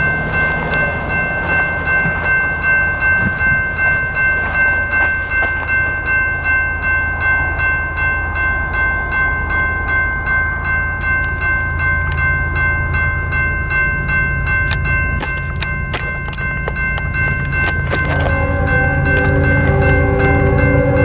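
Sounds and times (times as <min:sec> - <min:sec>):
freight train rumbling: 0:00.0 - 0:21.0
high ringing sound: 0:00.0 - 0:21.0.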